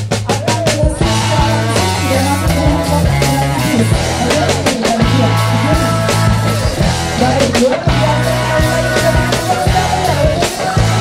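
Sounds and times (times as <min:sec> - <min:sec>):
background music with drums: 0:00.0 - 0:11.0.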